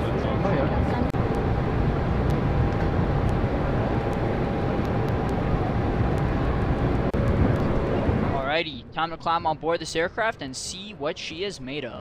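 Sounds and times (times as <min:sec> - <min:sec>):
faint constant whine: 0:00.0 - 0:12.0.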